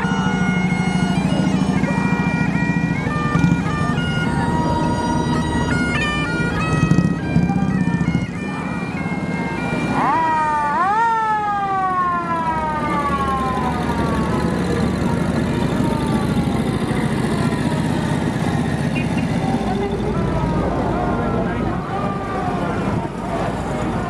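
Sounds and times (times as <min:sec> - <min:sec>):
bagpipe melody: 0:00.0 - 0:11.0, 0:12.3 - 0:20.6
siren wailing: 0:00.0 - 0:24.0.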